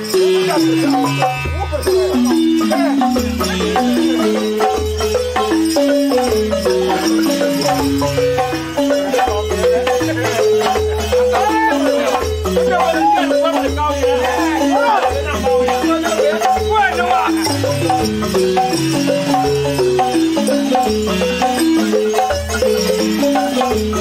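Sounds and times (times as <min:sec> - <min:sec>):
hand drums beating: 0:00.0 - 0:24.0
wooden xylophone melody: 0:00.0 - 0:24.0.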